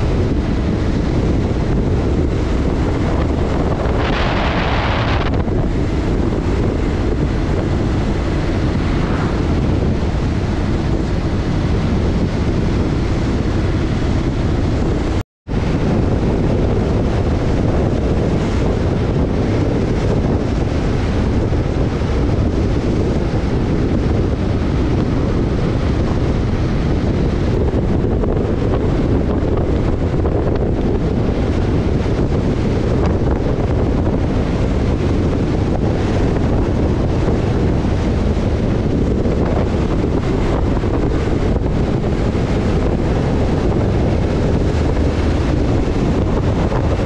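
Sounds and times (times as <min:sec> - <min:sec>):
motorcycle engine and road rumble: 0:00.0 - 0:47.0
wind rushing over microphone: 0:00.0 - 0:47.0.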